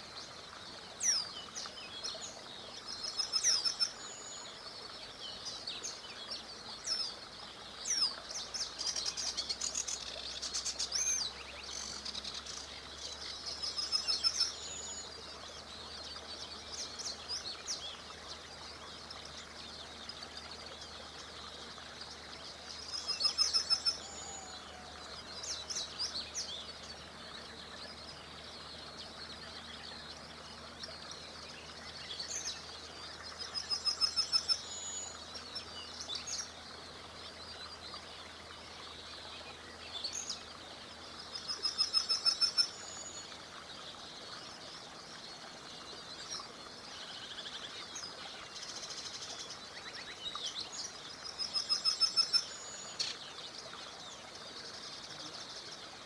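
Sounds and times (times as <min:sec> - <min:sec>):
small river murmuring: 0:00.0 - 0:56.0.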